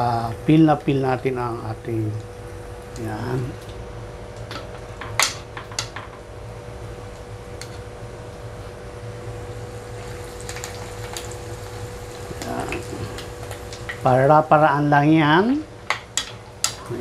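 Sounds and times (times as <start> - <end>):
faint steady hum: 0.0 - 17.0
oil sizzling in a frying pan: 0.8 - 17.0.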